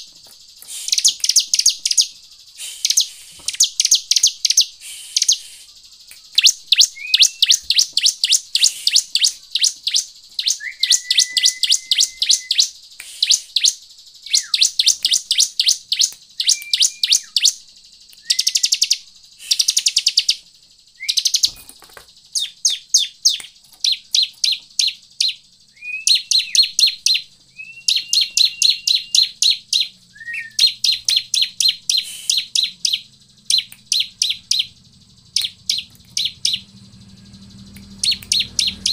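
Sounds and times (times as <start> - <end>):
bird trilling high chirps: 0.0 - 38.9.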